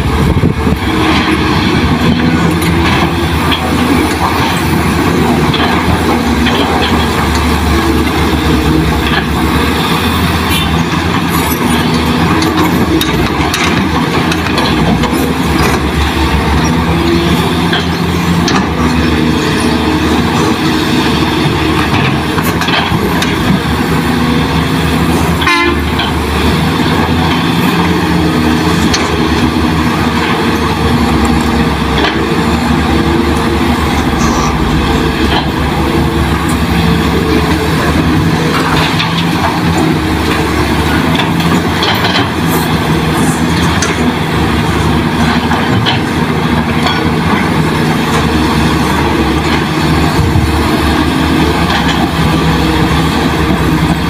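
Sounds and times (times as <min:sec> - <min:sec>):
excavator diesel engines running: 0:00.0 - 0:54.0.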